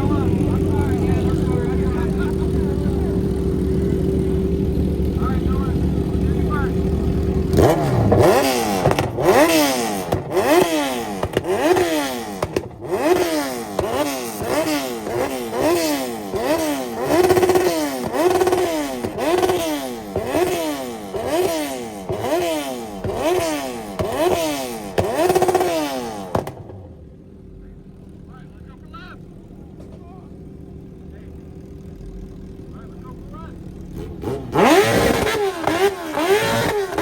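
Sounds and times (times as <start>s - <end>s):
engine revving hard: 0.0s - 26.8s, 33.9s - 37.0s.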